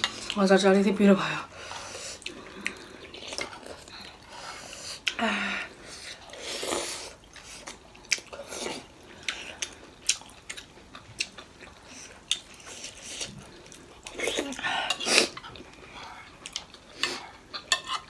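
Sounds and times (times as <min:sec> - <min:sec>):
chewing and slurping: 0:01.6 - 0:05.2, 0:05.8 - 0:18.0.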